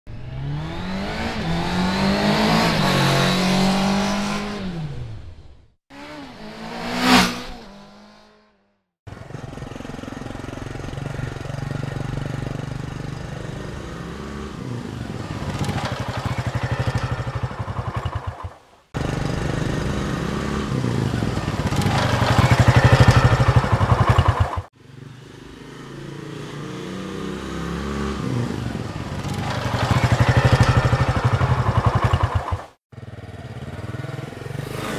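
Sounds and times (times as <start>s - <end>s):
motorcycle passing by: 0.1s - 5.3s, 5.9s - 34.9s
motorcycle engine revving: 0.1s - 34.9s.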